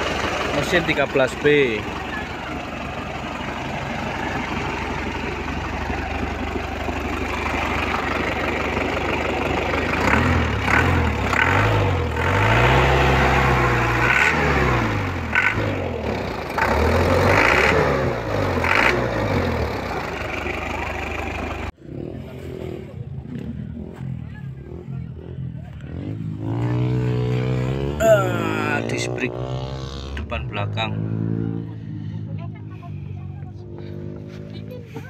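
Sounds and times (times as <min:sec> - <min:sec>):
diesel engine idling and revving: 0:00.0 - 0:35.0.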